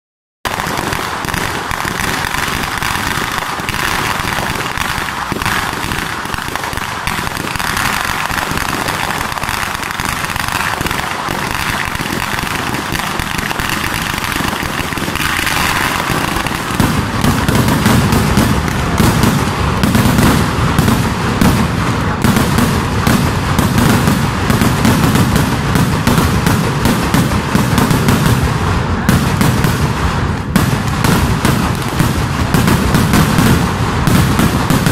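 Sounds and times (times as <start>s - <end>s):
deep firework blasts: 0.4s - 34.9s
firecrackers crackling: 0.4s - 34.9s.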